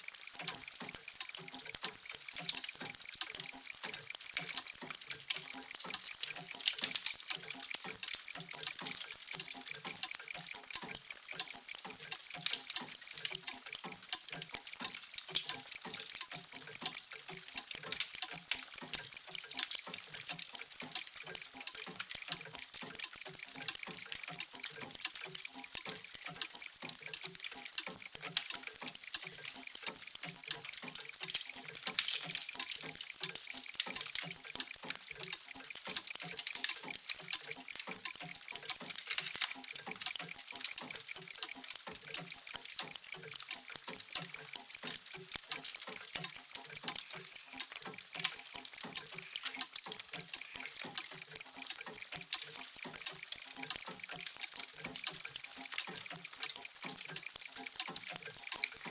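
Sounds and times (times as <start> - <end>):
mechanical clocks ticking: 0.0 - 58.9.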